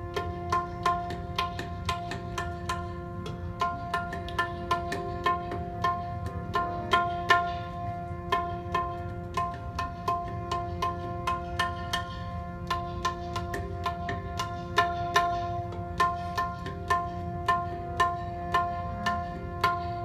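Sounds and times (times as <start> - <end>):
sustained harmonium notes: 0.0 - 20.0
tabla playing a steady rhythm: 0.0 - 20.0.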